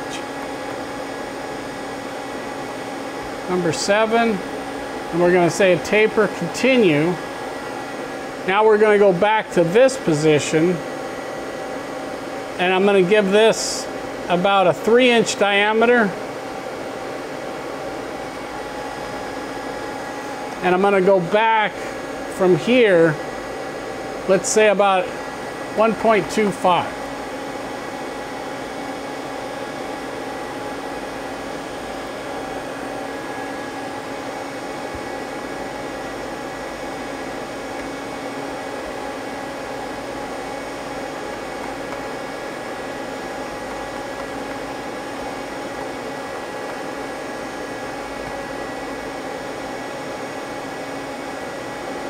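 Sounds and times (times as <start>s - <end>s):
fan hum and hiss: 0.0s - 52.0s.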